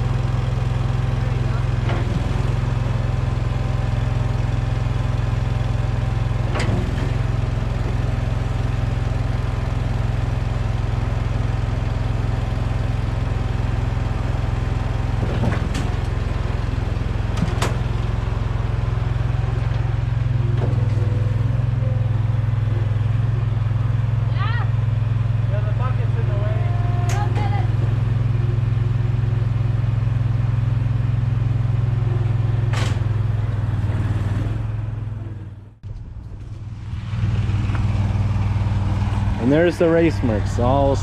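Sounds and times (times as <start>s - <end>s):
skid steer engine running: 0.0s - 41.0s.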